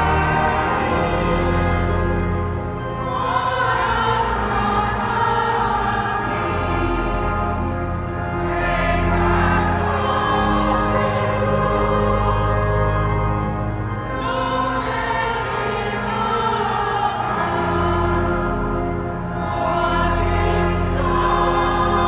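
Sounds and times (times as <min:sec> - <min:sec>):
choir singing sacred music: 0:00.0 - 0:22.0.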